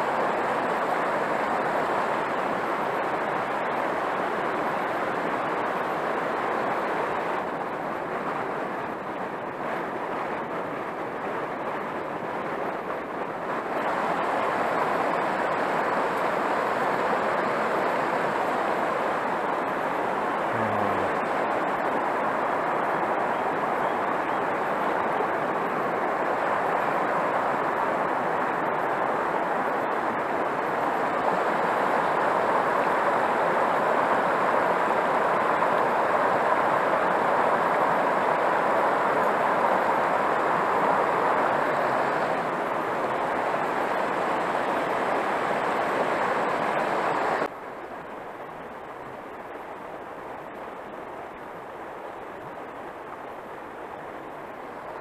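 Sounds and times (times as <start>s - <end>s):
river current rushing: 0.0s - 55.0s.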